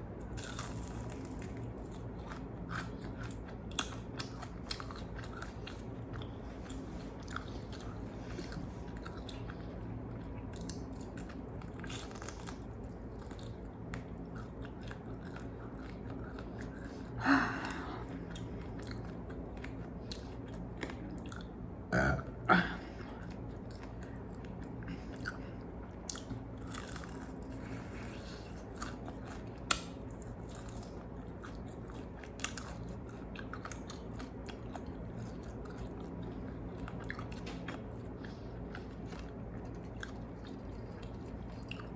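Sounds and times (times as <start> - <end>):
chewing crispy food: 0.0 - 21.9, 22.9 - 41.9.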